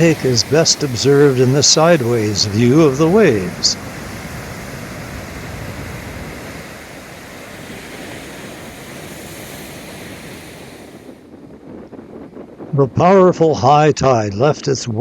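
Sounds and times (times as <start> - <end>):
surf washing up beach: 0.0 - 15.0.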